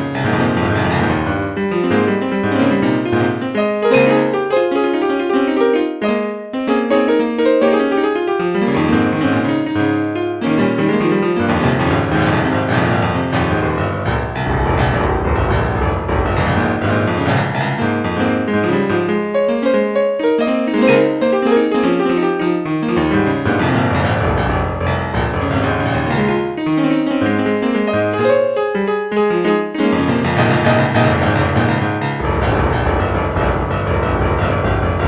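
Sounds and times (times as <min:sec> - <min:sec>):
piano background music: 0:00.0 - 0:35.0.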